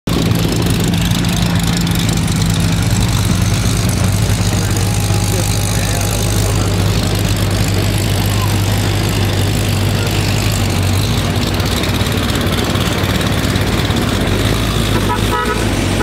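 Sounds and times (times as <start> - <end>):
car engine rumbling at low revs: 0.0 - 16.0.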